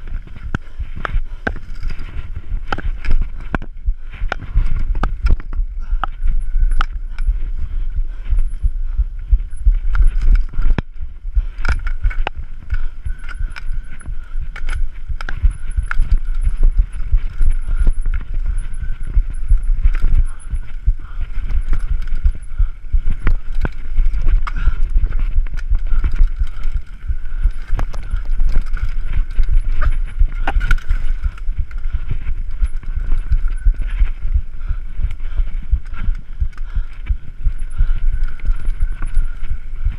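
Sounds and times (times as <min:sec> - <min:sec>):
bike rattling and knocking: 0:00.0 - 0:39.9.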